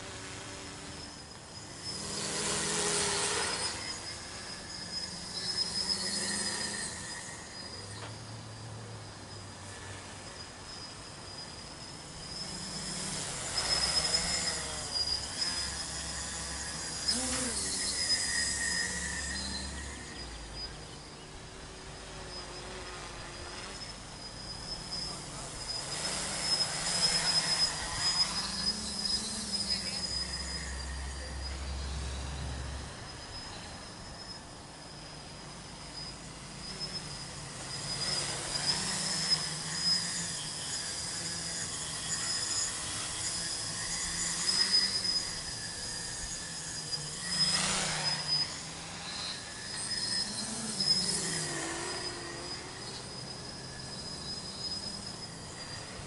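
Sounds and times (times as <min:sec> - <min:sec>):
drone motor and propeller whine: 0:00.0 - 0:56.0.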